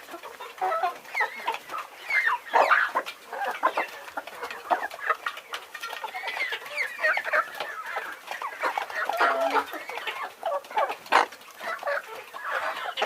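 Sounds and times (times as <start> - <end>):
chickens clucking and squawking: 0.0 - 13.0.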